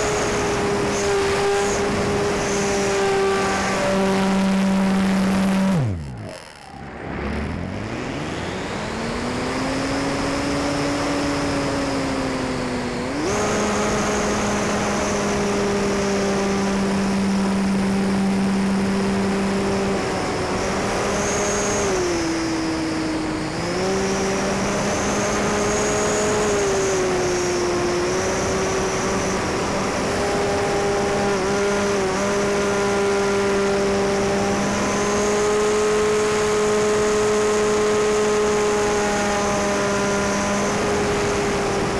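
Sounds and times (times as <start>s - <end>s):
electric motor and propeller whine: 0.0s - 41.9s.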